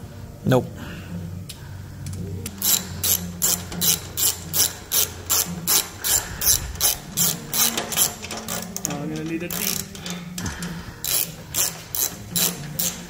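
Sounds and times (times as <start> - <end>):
hand ratchet clicking: 2.5 - 13.0.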